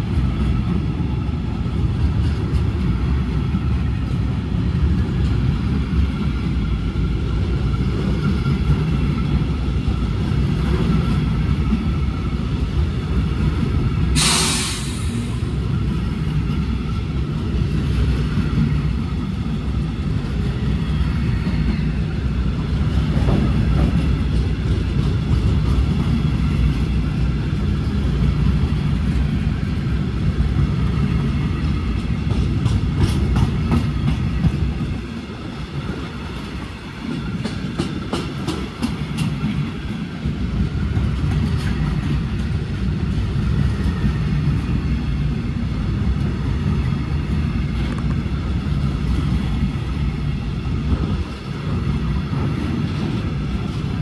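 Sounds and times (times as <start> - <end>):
sharp clicks from train wheels: 0.0 - 54.0
train wheels rumbling on rail: 0.0 - 54.0.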